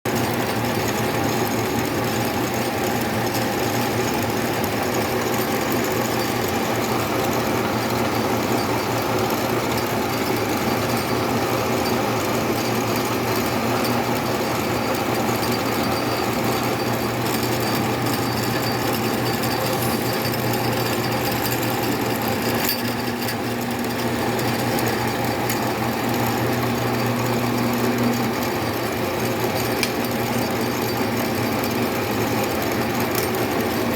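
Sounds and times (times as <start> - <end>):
tapping machine running: 0.1 - 33.9.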